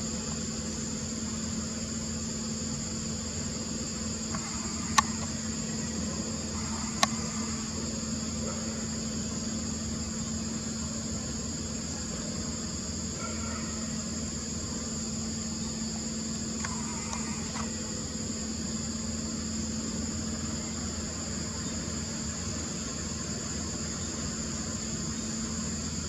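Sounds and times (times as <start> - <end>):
high-pitched insect chorus: 0.0 - 26.0
low steady hum: 0.0 - 26.0.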